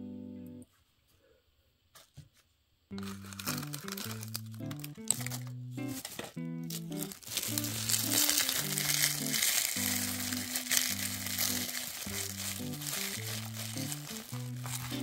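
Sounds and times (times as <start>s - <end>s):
dry seaweed crackling: 2.9s - 15.0s
background music: 3.0s - 15.0s.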